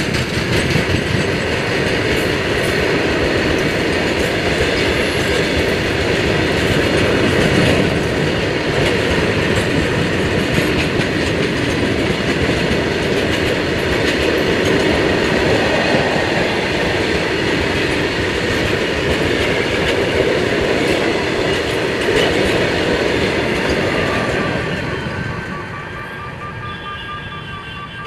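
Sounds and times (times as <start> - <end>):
wheels clicking over rail joints: 0.0 - 25.3
freight train rumbling and rattling: 0.0 - 26.7.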